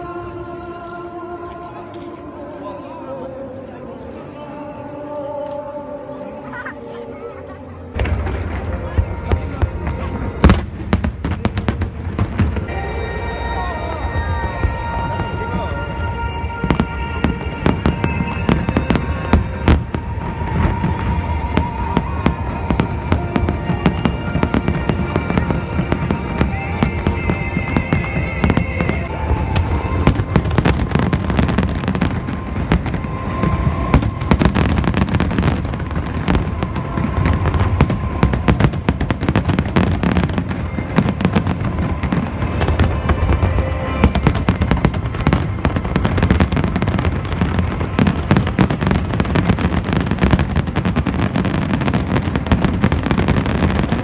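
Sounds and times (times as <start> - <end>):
music playing: 0.0 - 54.0
fireworks bursting and crackling: 7.9 - 54.0.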